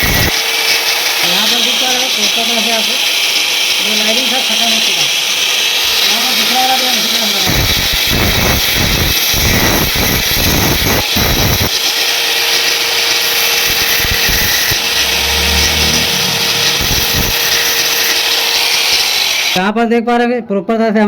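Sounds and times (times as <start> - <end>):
power tool grinding metal: 0.0 - 19.6.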